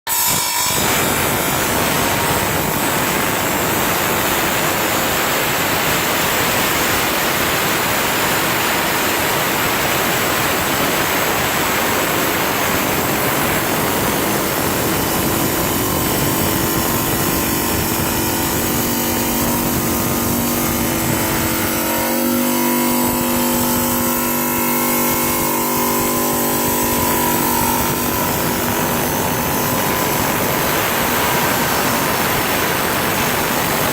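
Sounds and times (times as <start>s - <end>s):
saw blade grinding stone: 0.1s - 33.9s
saw motor whine: 0.1s - 33.9s.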